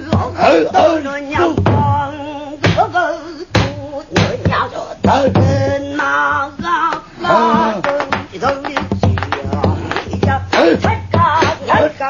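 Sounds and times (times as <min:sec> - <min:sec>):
woman singing with vibrato: 0:00.0 - 0:12.0.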